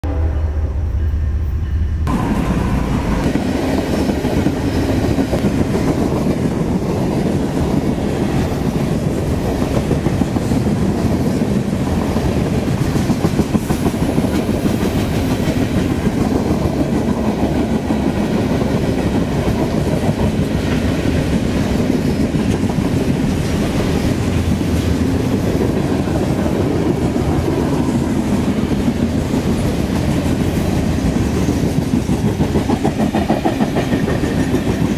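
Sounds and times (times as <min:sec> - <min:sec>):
freight train wheels clacking: 0:00.9 - 0:34.9.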